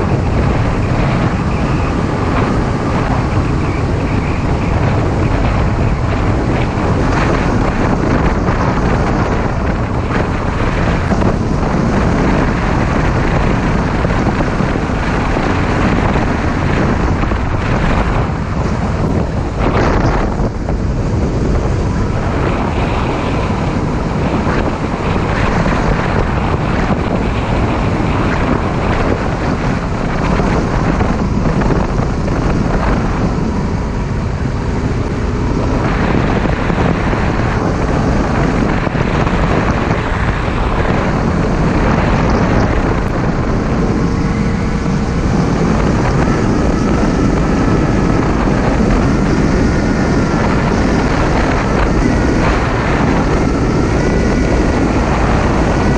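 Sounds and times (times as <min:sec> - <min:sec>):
motorcycle engine running: 0:00.0 - 0:55.9
wind rushing over microphone: 0:00.0 - 0:55.9.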